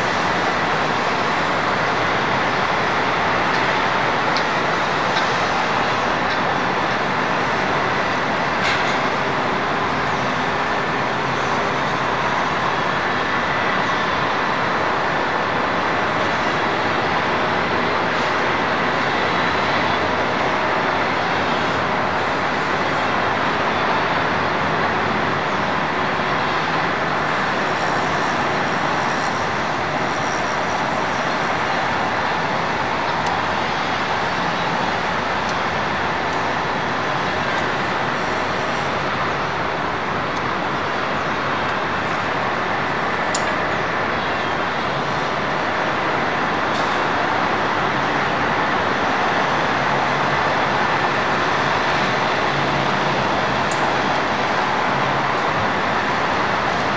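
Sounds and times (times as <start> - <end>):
diesel truck engines running: 0.0 - 56.9.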